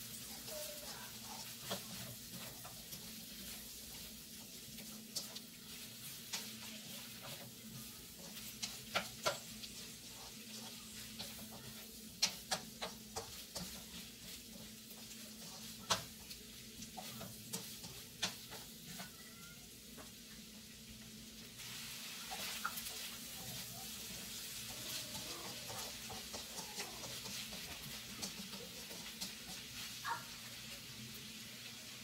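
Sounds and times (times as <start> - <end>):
food sizzling in a wok: 0.0 - 32.0.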